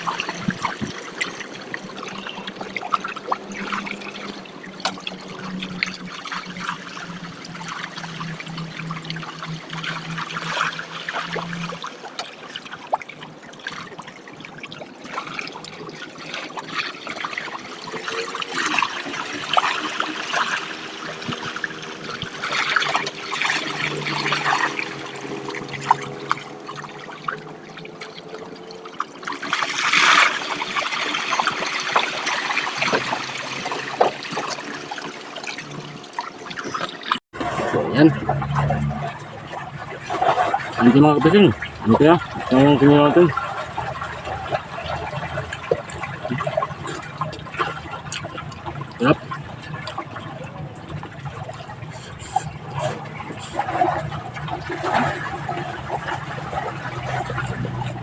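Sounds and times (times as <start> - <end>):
water pouring and trickling: 0.0 - 58.0.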